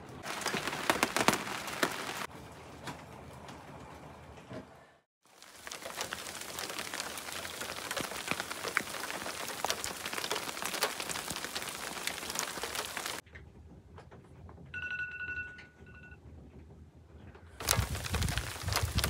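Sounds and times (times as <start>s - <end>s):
rain and sleet on metal: 0.0s - 4.4s, 5.2s - 14.7s, 17.4s - 19.0s.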